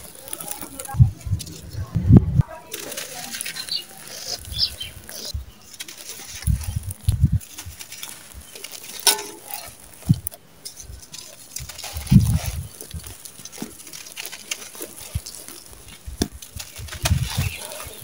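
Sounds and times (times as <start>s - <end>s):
sand-cement crunching by hand: 0.0s - 1.7s, 2.7s - 18.0s
grit trickling down: 0.0s - 1.8s, 2.6s - 18.0s.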